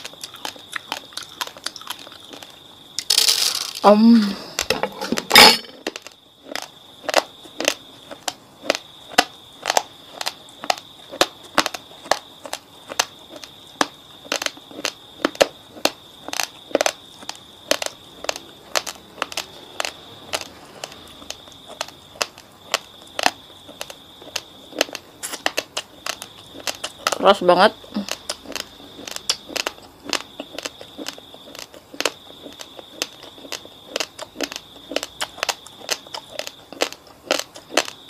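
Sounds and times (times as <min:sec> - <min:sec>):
rice crunching between teeth: 0:00.0 - 0:38.0.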